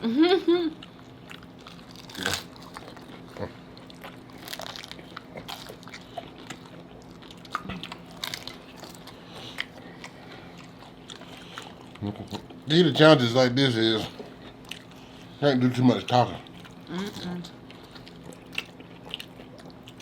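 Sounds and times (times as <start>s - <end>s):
person chewing crunchy food: 0.8s - 12.7s, 14.0s - 15.3s, 16.1s - 20.0s.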